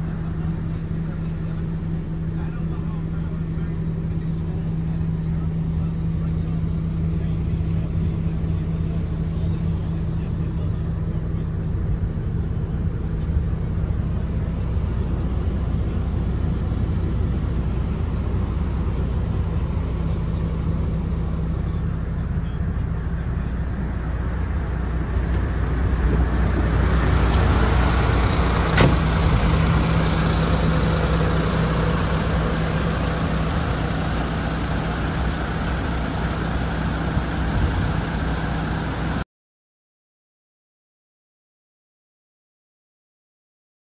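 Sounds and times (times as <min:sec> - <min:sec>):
diesel engine idling: 0:00.0 - 0:39.2.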